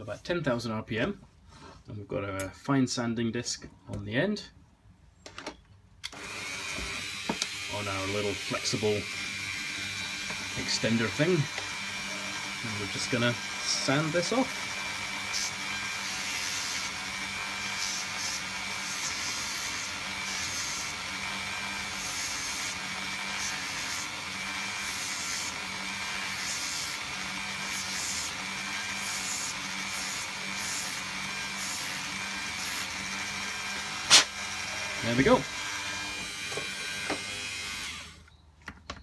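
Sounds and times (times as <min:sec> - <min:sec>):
rotary tool motor whine: 0:06.1 - 0:38.3.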